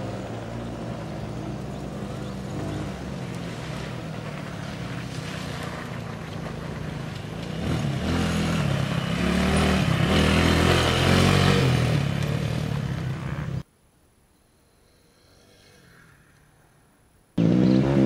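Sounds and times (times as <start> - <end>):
dirt bike engine passing: 0.0 - 13.6, 15.0 - 18.0.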